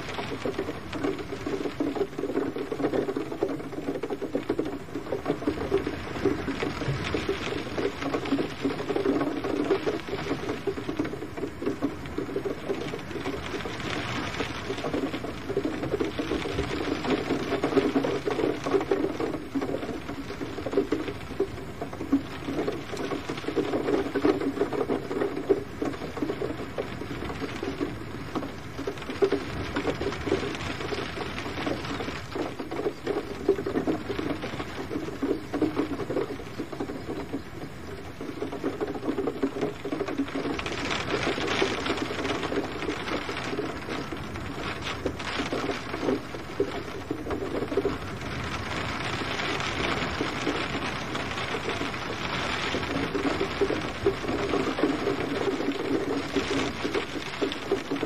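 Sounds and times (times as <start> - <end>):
gentle rain pattering: 0.0 - 58.0.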